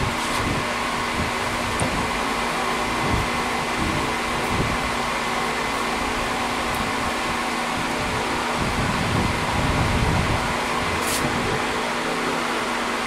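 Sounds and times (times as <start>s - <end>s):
milling machine motor hum: 0.0s - 13.0s.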